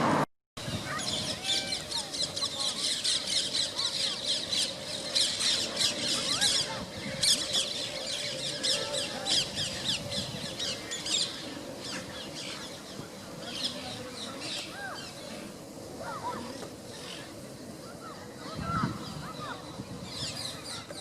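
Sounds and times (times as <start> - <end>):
parakeets screeching: 0.7 - 21.0.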